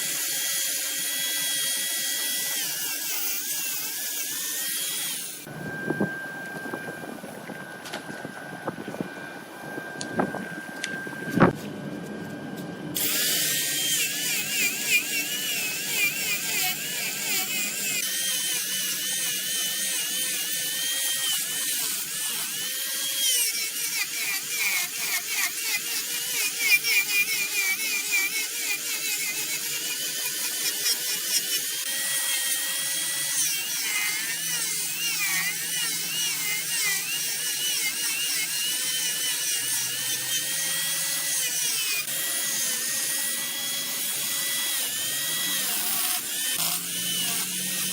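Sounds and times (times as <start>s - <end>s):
wood lathe cutting whine: 0.0s - 47.9s.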